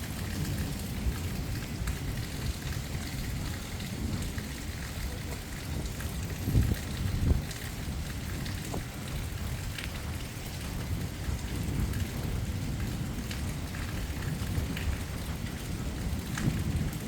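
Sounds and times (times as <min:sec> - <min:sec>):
drips and ticks: 0:00.0 - 0:17.0
rain falling: 0:00.0 - 0:17.0.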